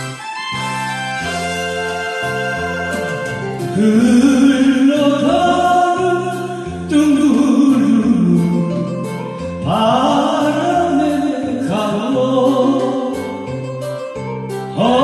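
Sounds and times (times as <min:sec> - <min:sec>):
instrumental backing track: 0:00.0 - 0:15.0
person singing: 0:01.8 - 0:13.7, 0:14.5 - 0:15.0.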